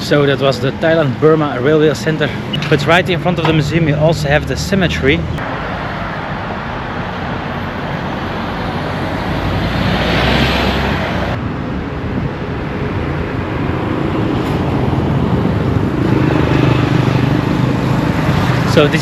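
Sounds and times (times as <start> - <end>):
road traffic noise: 0.0 - 19.0
vehicle passing: 0.0 - 19.0.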